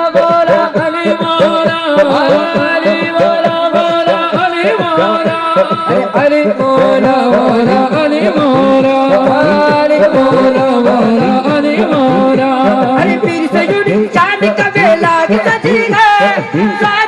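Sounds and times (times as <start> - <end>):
men singing into microphones: 0.0 - 17.0
rhythmic accompaniment: 0.0 - 17.0.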